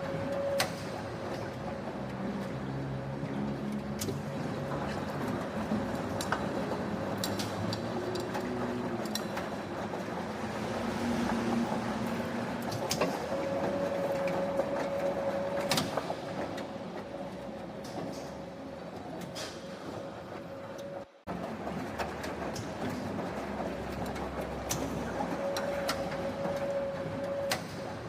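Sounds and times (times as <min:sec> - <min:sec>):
factory machinery rumbling: 0:00.0 - 0:28.0.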